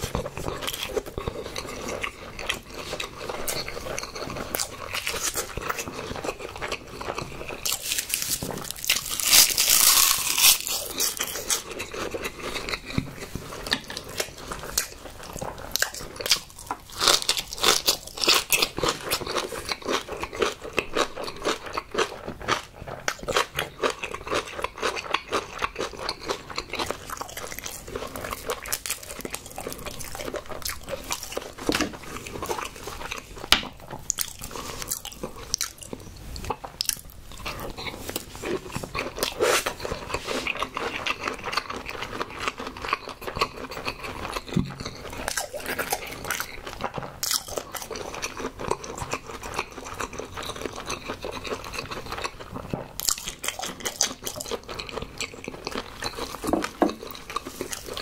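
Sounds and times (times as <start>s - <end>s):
food crunching: 0.0s - 58.0s
person eating close to microphone: 0.0s - 58.0s.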